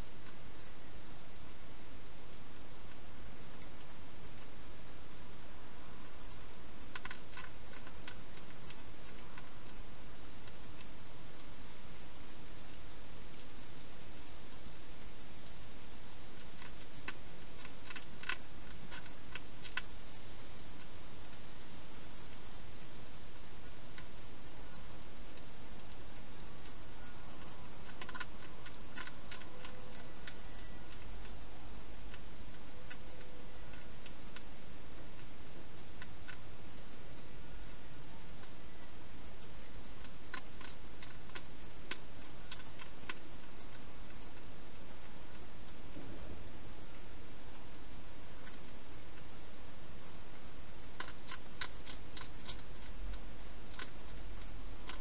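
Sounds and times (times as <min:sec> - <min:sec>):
hedgehog chewing and crunching: 0:00.0 - 0:55.0
steady hiss: 0:00.0 - 0:55.0.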